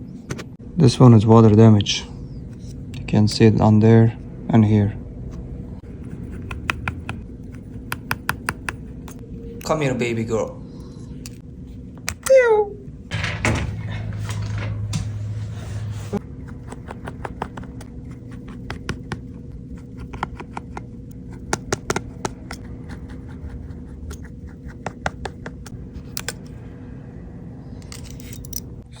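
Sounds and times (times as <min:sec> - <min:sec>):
louder low hum: 0:00.0 - 0:29.0
steady low hum: 0:00.0 - 0:29.0.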